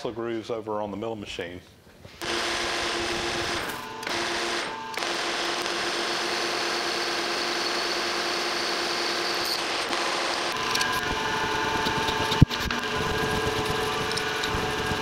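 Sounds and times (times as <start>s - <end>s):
drill boring into metal: 2.2s - 15.0s
metal lathe running: 2.2s - 15.0s.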